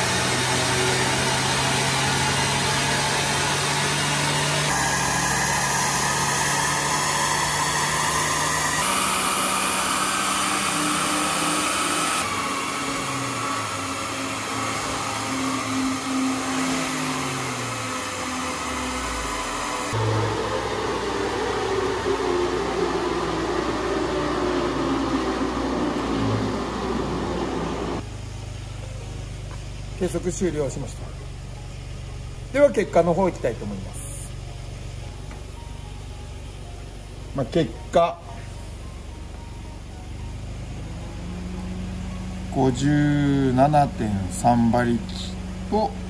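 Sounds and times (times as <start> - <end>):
car engine running hard: 0.0 - 46.0.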